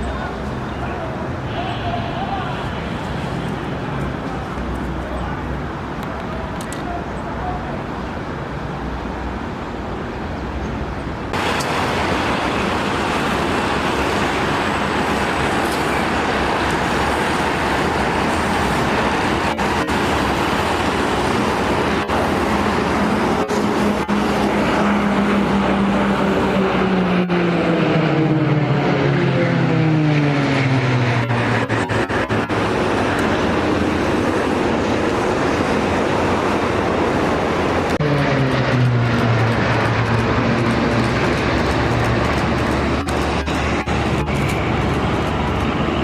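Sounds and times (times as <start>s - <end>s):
military aircraft roaring past: 0.0s - 46.0s.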